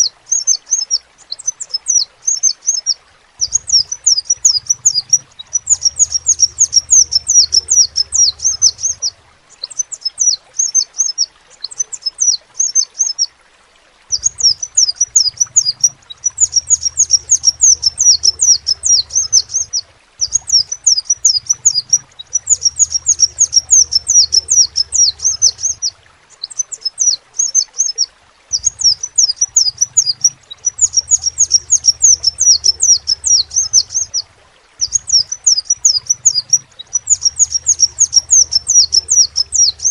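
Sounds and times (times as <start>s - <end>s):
bird singing high trills: 0.3s - 13.3s, 14.1s - 39.9s.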